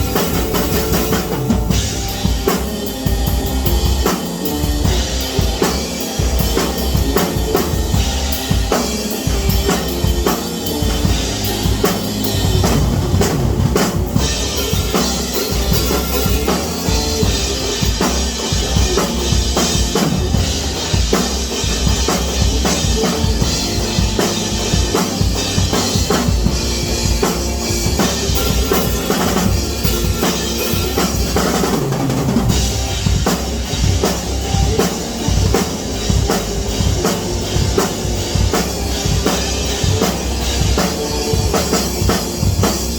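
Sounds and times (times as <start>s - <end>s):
heavy bass line: 0.0s - 42.9s.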